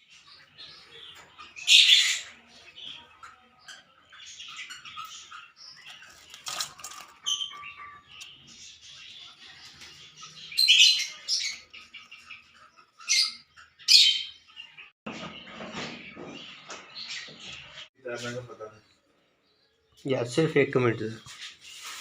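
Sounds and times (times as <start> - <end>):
lovebirds chattering: 0.0 - 22.0.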